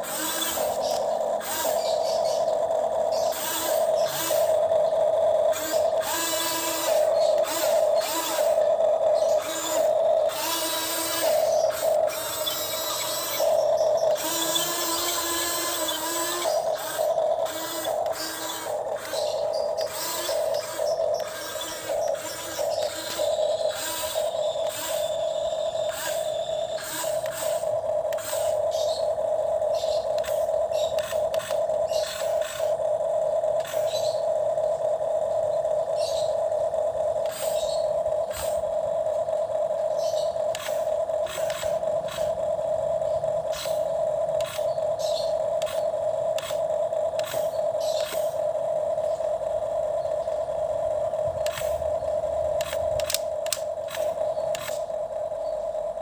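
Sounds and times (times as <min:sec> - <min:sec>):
gears whirring: 0:00.0 - 0:56.0
small electric motor whining: 0:00.0 - 0:56.0.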